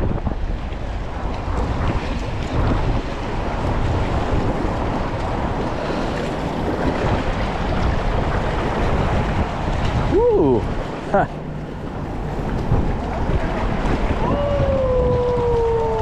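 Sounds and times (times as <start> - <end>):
shallow water washing: 0.0 - 16.0
wind buffeting microphone: 0.0 - 16.0.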